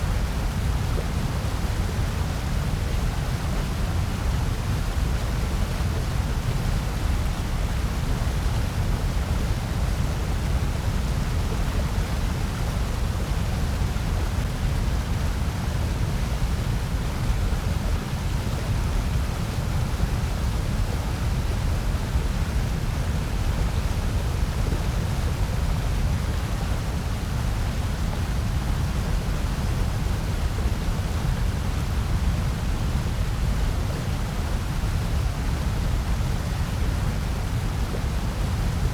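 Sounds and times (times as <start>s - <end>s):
low rumbling noise with hiss: 0.0s - 38.9s.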